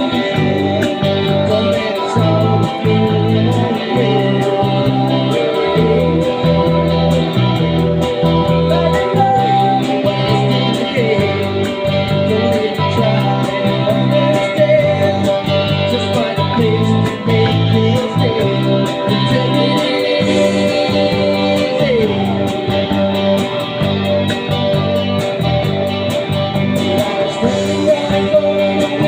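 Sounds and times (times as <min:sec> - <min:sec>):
guitar band music: 0:00.0 - 0:29.0.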